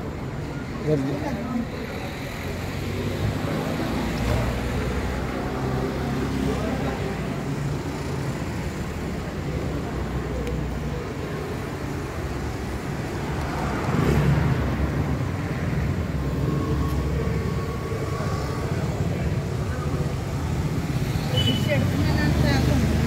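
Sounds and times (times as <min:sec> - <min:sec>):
traffic rumble of passing vehicles: 0:00.0 - 0:23.0.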